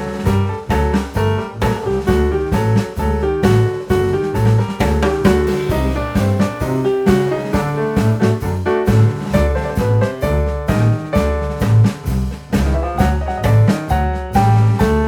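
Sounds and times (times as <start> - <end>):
upbeat jazz music: 0.0 - 15.0.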